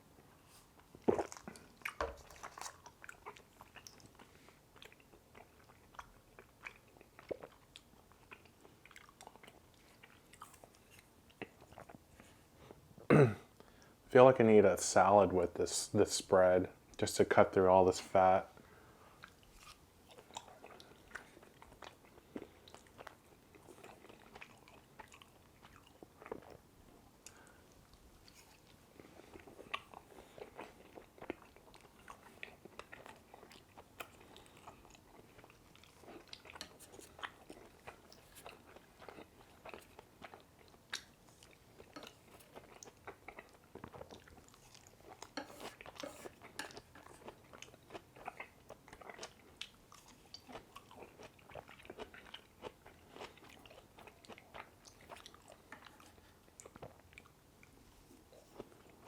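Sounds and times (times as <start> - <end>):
person chewing: 0.7 - 12.8, 19.1 - 59.0.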